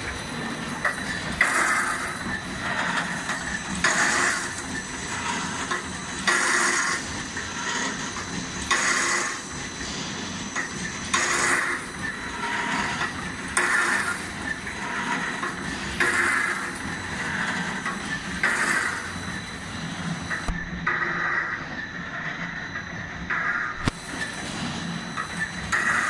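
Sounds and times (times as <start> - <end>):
welding machine noise bursts: 0.0 - 22.6, 23.2 - 26.0
machine running with high whine: 0.0 - 26.0.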